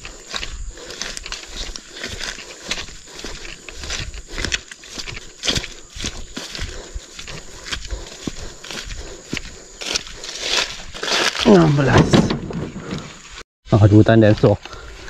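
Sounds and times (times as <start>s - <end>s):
footsteps on grass and fronds: 0.0s - 13.4s.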